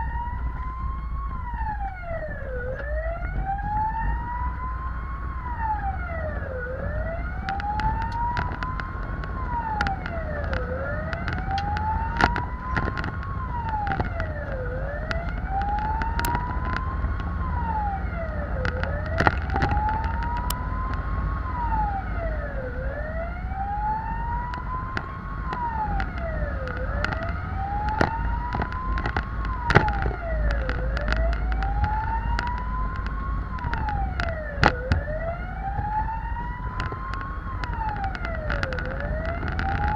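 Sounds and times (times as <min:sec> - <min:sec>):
fire engine siren wailing: 0:00.0 - 0:39.9
truck engine rumble: 0:00.0 - 0:39.9.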